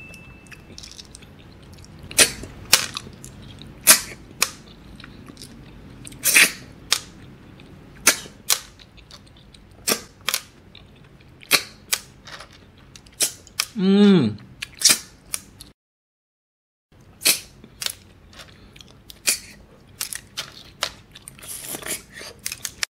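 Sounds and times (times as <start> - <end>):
faint chewing: 0.5 - 13.8, 17.2 - 22.9.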